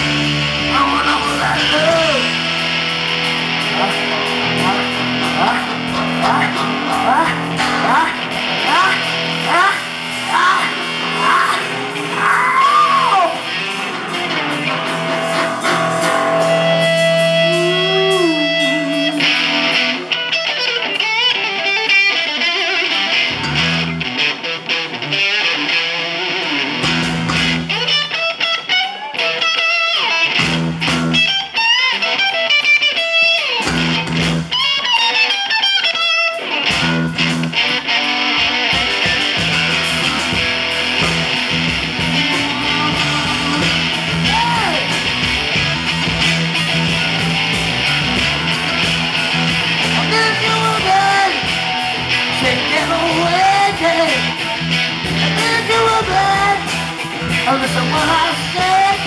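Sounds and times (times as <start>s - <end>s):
lead guitar bending notes: 0.0s - 59.0s
rock band playing: 0.0s - 59.0s.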